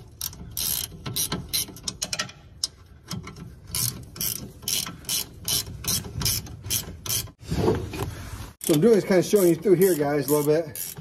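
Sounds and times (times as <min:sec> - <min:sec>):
hand ratchet clicking: 0:00.0 - 0:07.3, 0:08.6 - 0:11.0.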